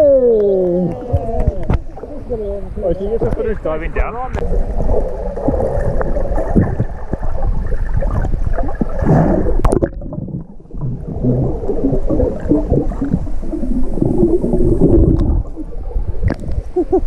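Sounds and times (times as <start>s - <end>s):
water rushing and bubbling: 0.1s - 17.0s.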